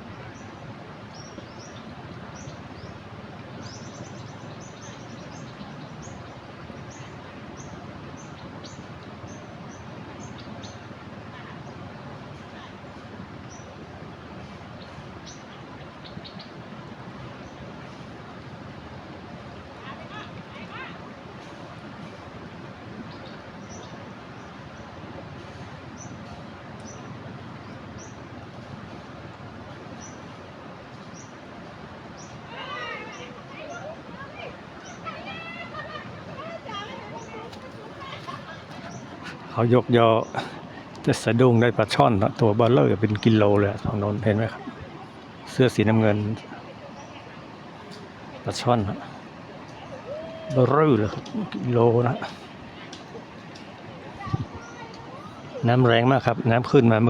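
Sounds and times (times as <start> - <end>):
floodwater rushing over a weir: 0.0 - 57.0.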